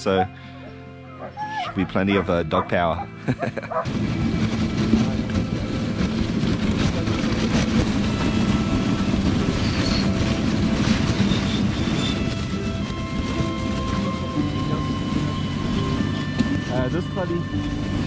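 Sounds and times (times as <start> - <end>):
sled runners rumbling on snow: 0.0 - 18.0.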